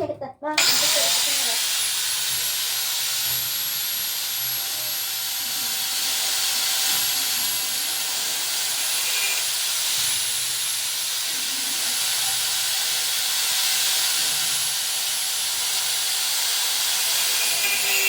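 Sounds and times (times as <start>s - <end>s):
angle grinder cutting steel: 0.6s - 18.0s.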